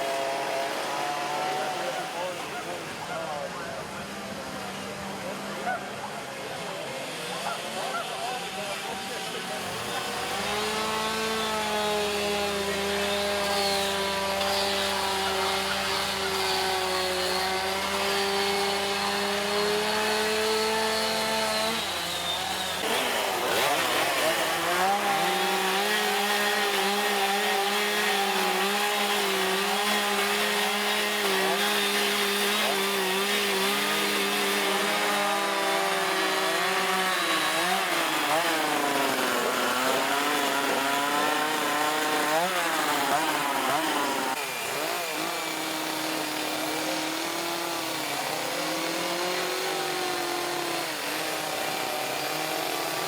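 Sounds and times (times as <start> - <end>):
chainsaws carving wood: 0.0 - 53.0.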